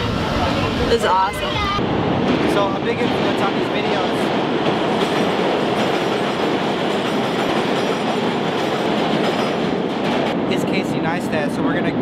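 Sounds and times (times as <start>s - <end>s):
subway train running past: 0.0s - 12.0s.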